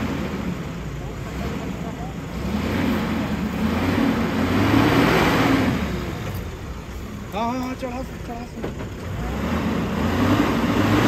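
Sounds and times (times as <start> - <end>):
lorry engine revving: 0.0 - 11.0.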